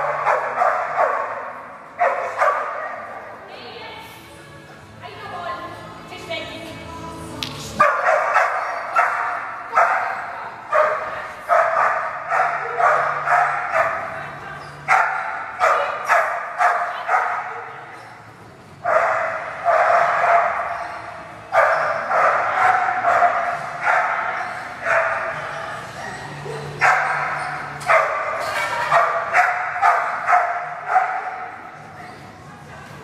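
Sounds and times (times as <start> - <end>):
dog barking in echoing hall: 0.0 - 3.4, 7.8 - 31.9.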